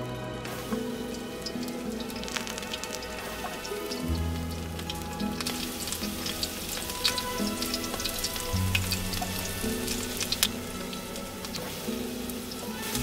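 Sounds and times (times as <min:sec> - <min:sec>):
spaghetti sizzling in hot oil: 0:00.5 - 0:13.0.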